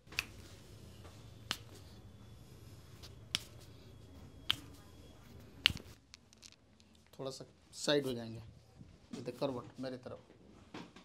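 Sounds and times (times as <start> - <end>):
low room hum: 0.0 - 10.6.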